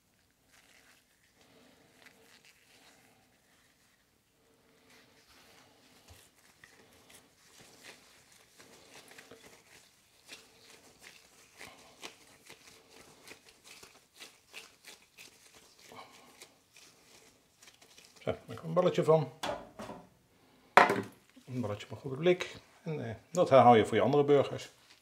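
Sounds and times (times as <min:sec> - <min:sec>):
crinkling of cling film and gloves: 0:00.0 - 0:19.2, 0:23.3 - 0:25.0.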